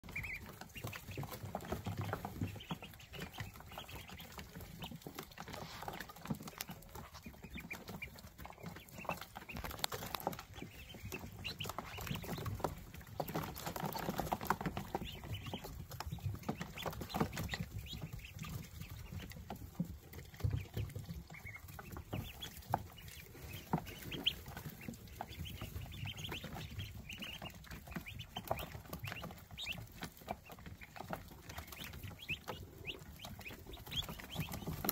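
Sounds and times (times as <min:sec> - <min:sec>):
ducklings peeping: 0:00.0 - 0:34.9.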